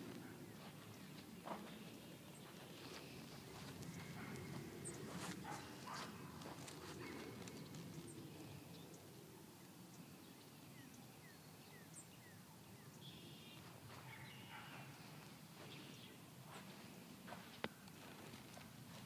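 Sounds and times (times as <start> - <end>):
faint open-air hiss: 0.0 - 19.0
small birds chirping: 0.0 - 19.0.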